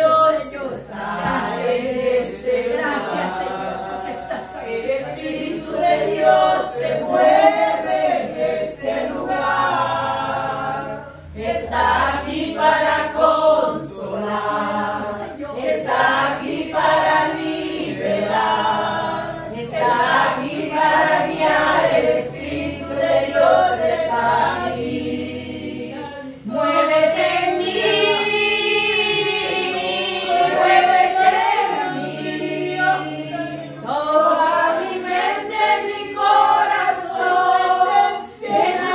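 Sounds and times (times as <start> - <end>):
women singing a worship song: 0.0 - 38.9.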